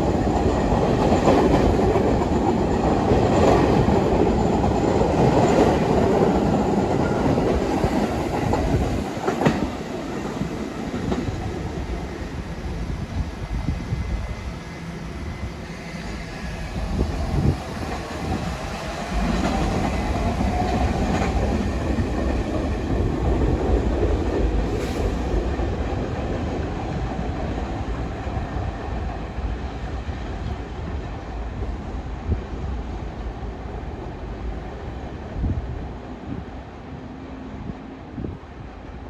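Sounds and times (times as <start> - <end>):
subway train rumbling past: 0.0 - 39.0.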